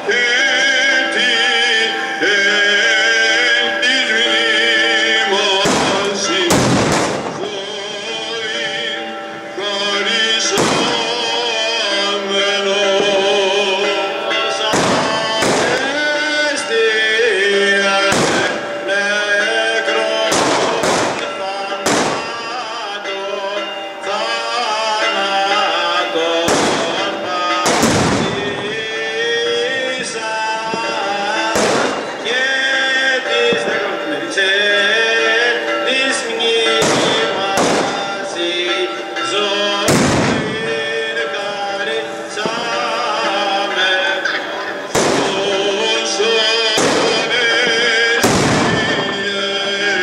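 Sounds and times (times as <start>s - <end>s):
firecrackers banging: 0.0s - 50.0s
music: 0.0s - 50.0s.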